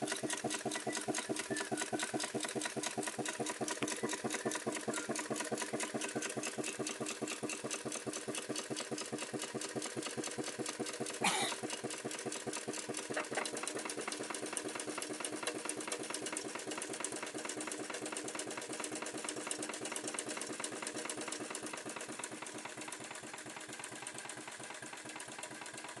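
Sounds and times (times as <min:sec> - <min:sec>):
steam traction engine running: 0:00.0 - 0:26.0.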